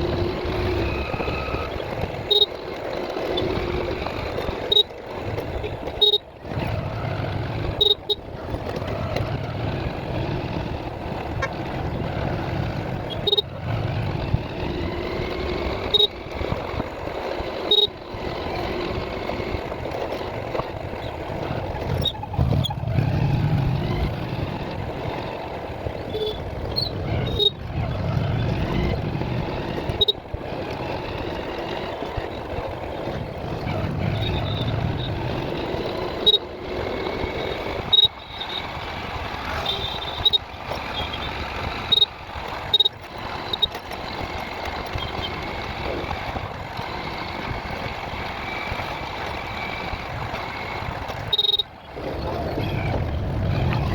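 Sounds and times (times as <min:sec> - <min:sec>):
vehicle noise: 0:00.0 - 0:53.9.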